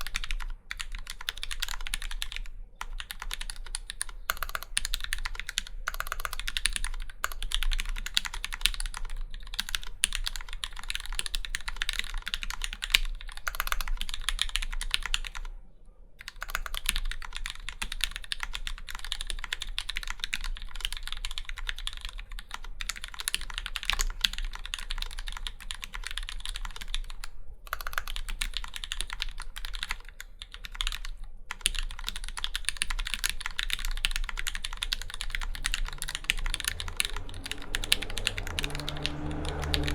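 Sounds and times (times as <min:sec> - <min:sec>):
mechanical keyboard typing: 0:00.0 - 0:15.5, 0:16.2 - 0:39.9.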